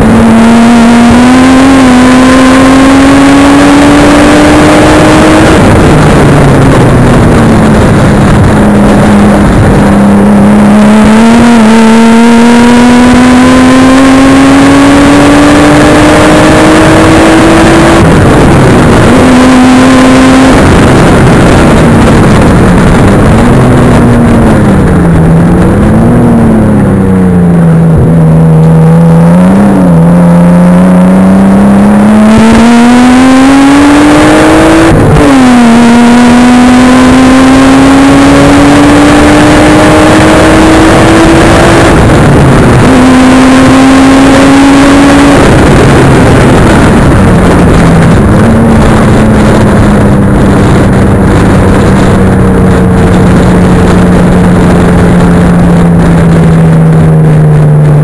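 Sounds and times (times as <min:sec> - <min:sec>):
car engine and exhaust revving: 0:00.0 - 0:58.0.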